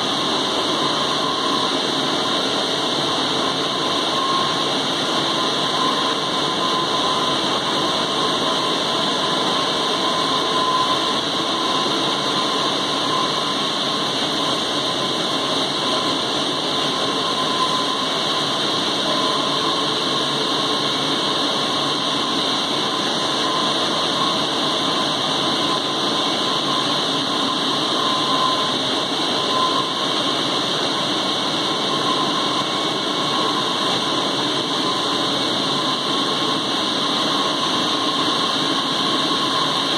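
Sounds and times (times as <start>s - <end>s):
machine hum and hiss: 0.0s - 39.9s
thin high whine: 0.0s - 39.9s.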